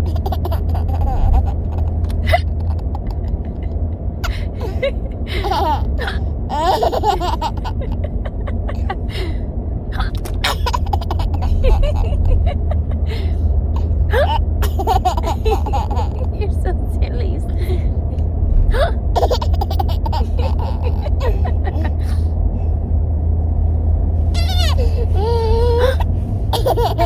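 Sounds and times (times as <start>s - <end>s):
baby giggling: 0.0s - 9.3s, 10.0s - 16.6s, 18.7s - 22.2s, 24.4s - 27.0s
steady low rumble: 0.0s - 27.0s.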